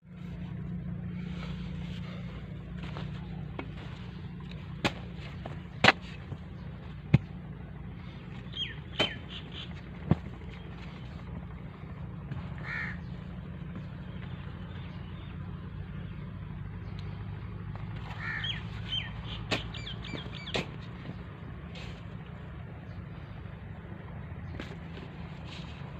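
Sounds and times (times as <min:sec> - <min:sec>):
steady low hum: 0:00.0 - 0:25.9
birds chirping: 0:00.1 - 0:25.9.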